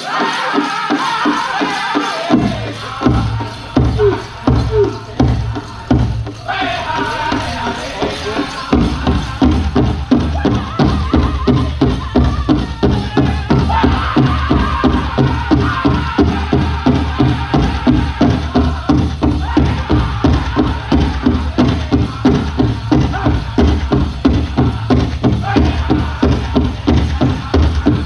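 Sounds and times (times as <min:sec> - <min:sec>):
big drum beating in unison: 0:00.0 - 0:28.0
high-pitched group singing: 0:00.0 - 0:28.0.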